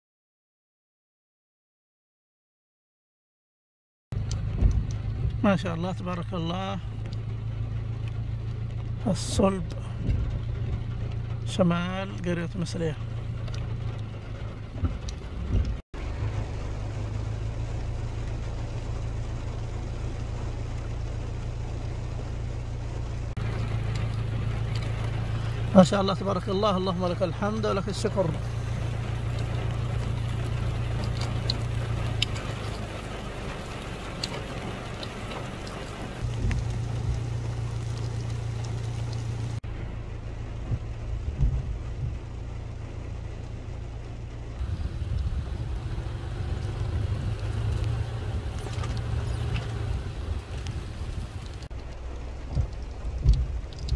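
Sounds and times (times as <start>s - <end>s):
low bumps: 4.1s - 6.1s, 6.9s - 53.9s
steady low rumble: 4.1s - 53.9s
constant low hum: 4.2s - 53.9s
rain hiss: 4.2s - 53.9s.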